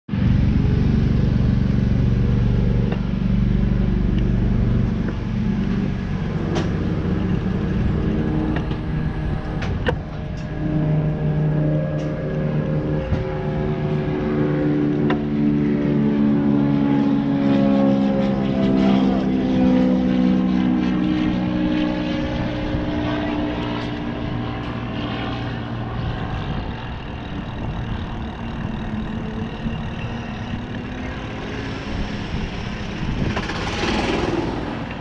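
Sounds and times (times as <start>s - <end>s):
small motorbike engine running: 0.1s - 35.0s.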